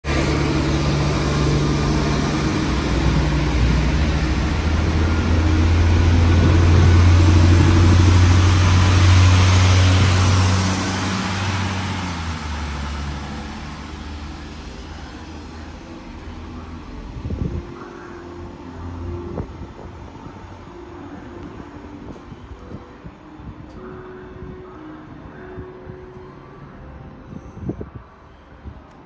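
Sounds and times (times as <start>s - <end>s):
diesel engines humming under load: 0.0s - 29.0s
train wheel and rail noise: 0.0s - 29.0s.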